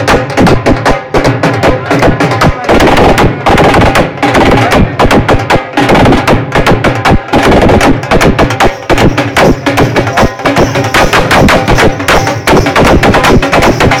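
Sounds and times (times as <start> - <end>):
drums beaten with sticks: 0.0 - 14.0.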